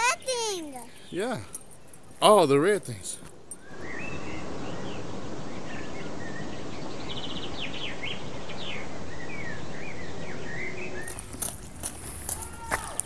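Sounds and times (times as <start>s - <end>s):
steady background hiss: 0.0s - 13.0s
wild birds chirping: 0.6s - 12.3s.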